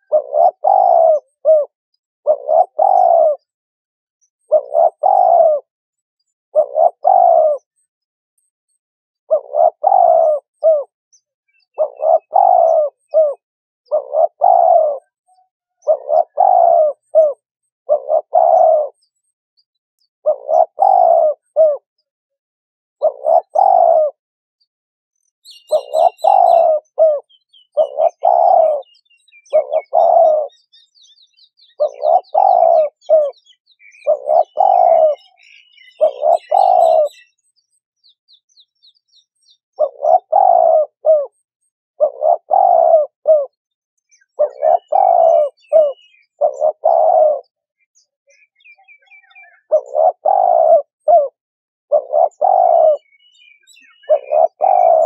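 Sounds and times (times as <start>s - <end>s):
dove cooing: 0.0s - 3.6s, 4.4s - 5.7s, 6.5s - 7.8s, 9.3s - 10.9s, 11.5s - 19.3s, 20.2s - 22.1s, 23.0s - 24.2s, 25.5s - 37.4s, 39.8s - 47.7s, 48.3s - 55.0s
small birds chirping faintly: 0.0s - 3.6s, 4.2s - 22.2s, 25.2s - 55.0s.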